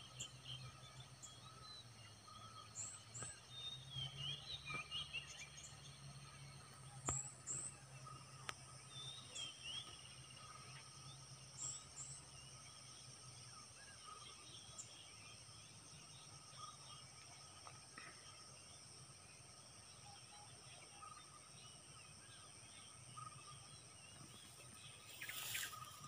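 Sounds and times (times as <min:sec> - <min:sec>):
insects droning: 0:00.0 - 0:26.0
small birds chirping: 0:00.0 - 0:26.0.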